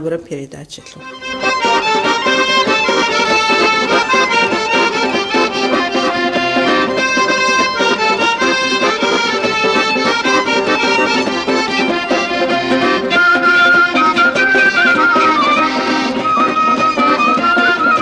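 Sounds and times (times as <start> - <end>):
instrumental folk music: 0.8 - 18.0.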